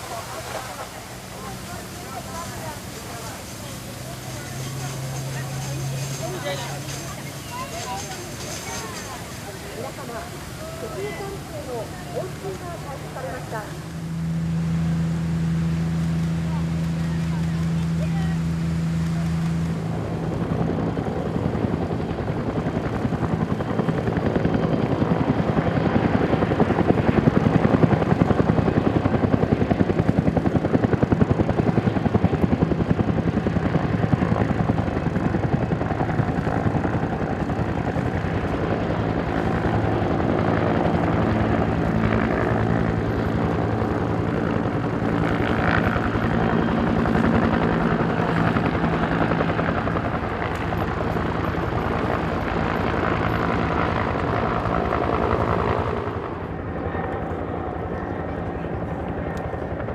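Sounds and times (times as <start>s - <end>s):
low engine drone: 0.0s - 30.4s, 31.6s - 59.9s
helicopter rotor beating: 0.0s - 59.9s.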